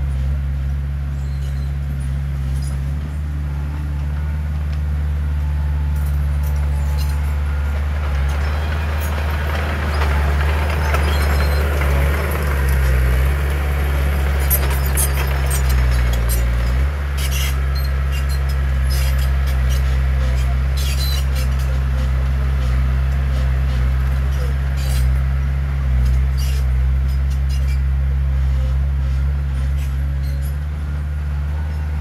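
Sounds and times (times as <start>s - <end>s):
diesel earthmoving machinery running: 0.0s - 32.0s.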